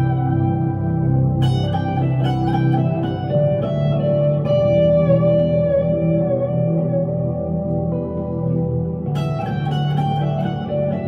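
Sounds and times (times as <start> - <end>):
electric guitar melodic lead: 0.0 - 11.0.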